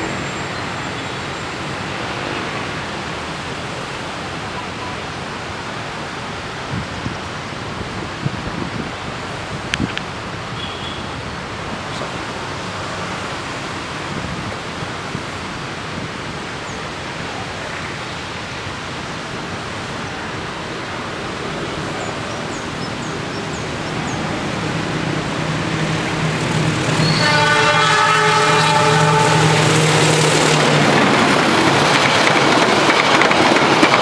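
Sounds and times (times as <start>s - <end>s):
steady rushing noise: 0.0s - 27.2s, 28.0s - 34.0s
diesel locomotive engine hum: 0.0s - 34.0s.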